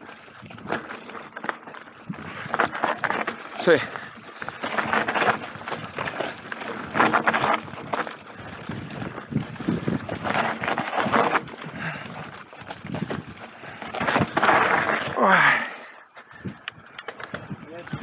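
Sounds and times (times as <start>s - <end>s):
bike rattling and knocking: 0.0s - 15.2s, 16.7s - 18.0s
tyres crunching over dirt: 0.0s - 15.6s.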